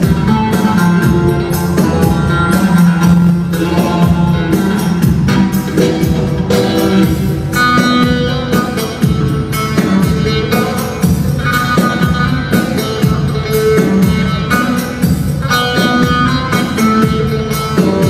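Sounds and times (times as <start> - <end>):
amplified saz melody: 0.0 - 18.0
steady rhythmic beat: 0.0 - 18.0.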